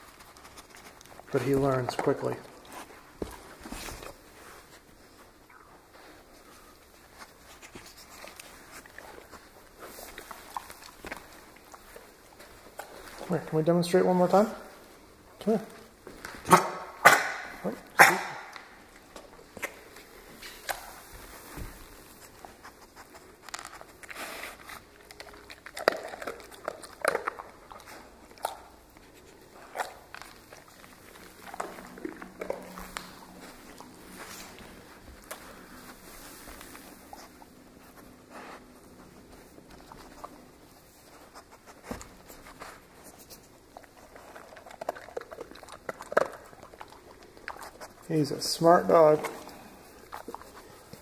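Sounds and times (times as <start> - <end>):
dog chewing and licking: 0.0 - 14.8, 15.9 - 51.0.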